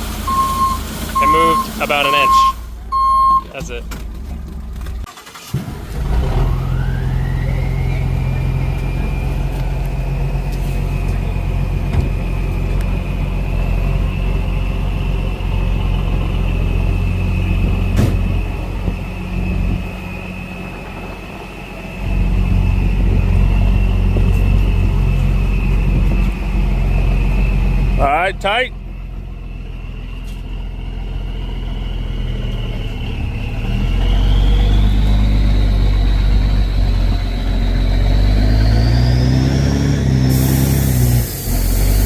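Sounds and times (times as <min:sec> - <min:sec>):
truck engine running under load: 0:00.0 - 0:42.0.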